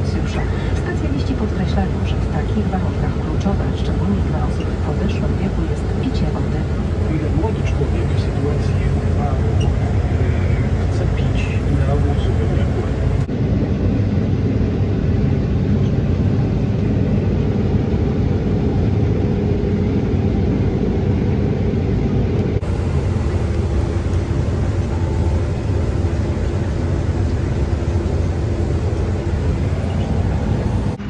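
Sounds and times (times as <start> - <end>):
combine harvester running: 0.0 - 18.8, 20.3 - 31.0.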